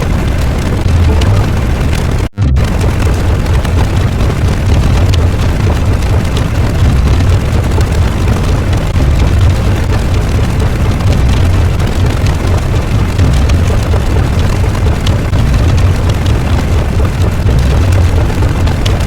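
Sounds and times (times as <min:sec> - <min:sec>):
deep continuous rumbling: 0:00.0 - 0:19.0.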